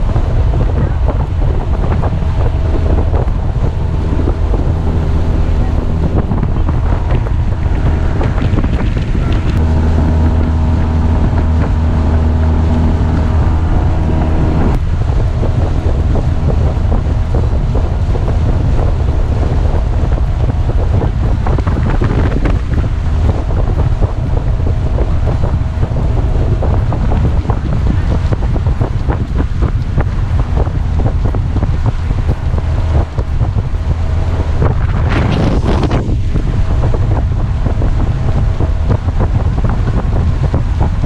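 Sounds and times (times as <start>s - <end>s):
outboard motor droning: 0.0s - 41.0s
water rushing along hull: 0.0s - 41.0s
wind buffeting microphone: 0.0s - 41.0s.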